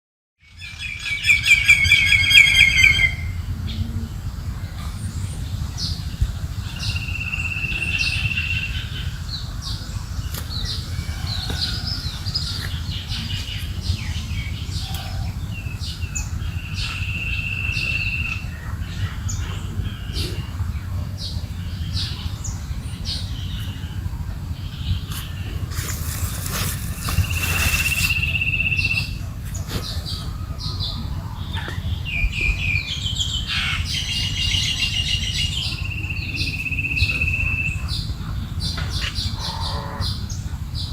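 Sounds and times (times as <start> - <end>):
birds singing: 0.4 - 40.9
steady low rumble: 0.5 - 40.9.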